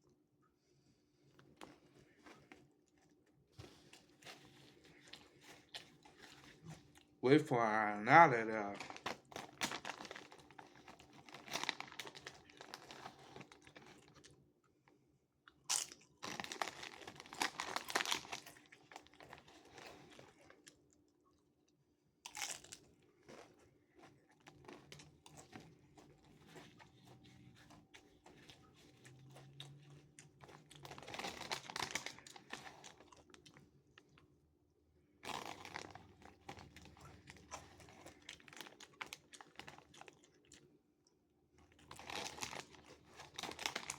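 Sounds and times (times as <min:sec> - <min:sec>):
person chewing crunchy chips: 0:01.6 - 0:14.4, 0:15.5 - 0:21.4, 0:22.2 - 0:34.3, 0:35.2 - 0:40.7, 0:41.6 - 0:43.9.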